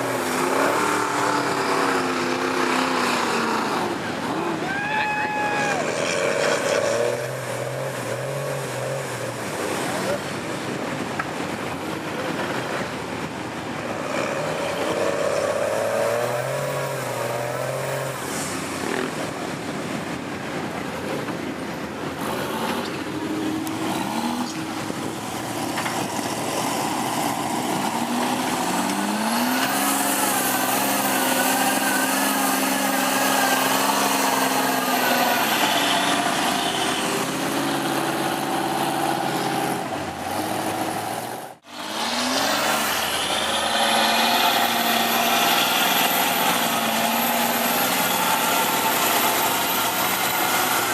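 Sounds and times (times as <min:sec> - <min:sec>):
diesel truck engines revving: 0:00.0 - 0:50.9.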